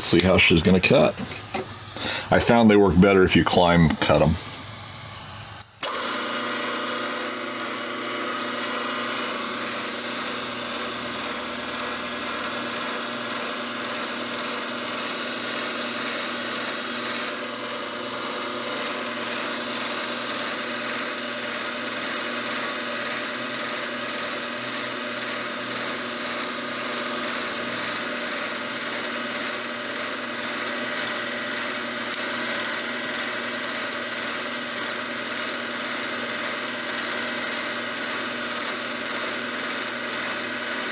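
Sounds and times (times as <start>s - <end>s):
milling machine cutting metal: 0.0s - 40.9s.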